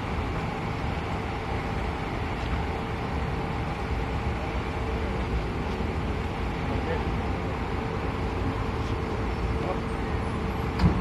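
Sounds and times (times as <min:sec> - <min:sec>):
diesel coach engine idling: 0:00.0 - 0:11.0.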